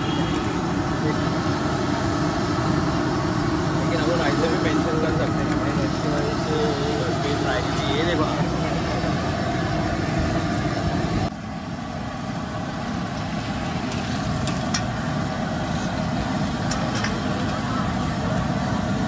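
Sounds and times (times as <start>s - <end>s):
city street traffic rumble: 0.0s - 19.0s.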